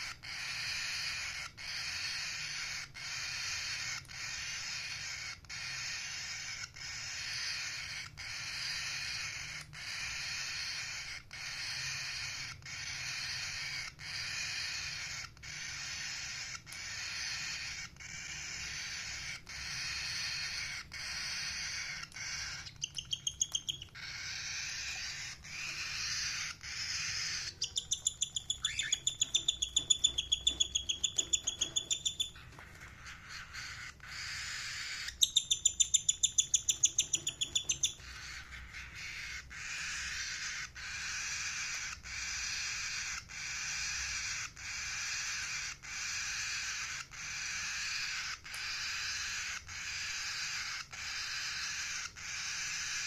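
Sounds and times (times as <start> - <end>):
parrot shrill calls: 0.0 - 53.0.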